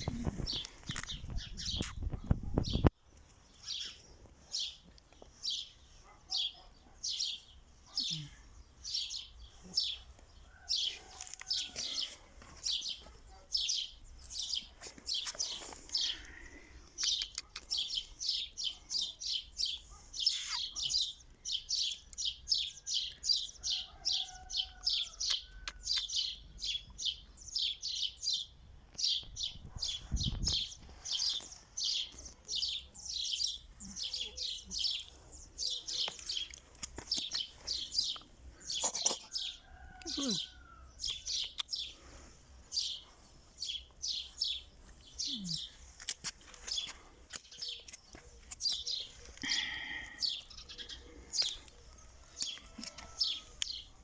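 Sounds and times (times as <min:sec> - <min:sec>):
small bird chirping: 0:00.0 - 0:54.0.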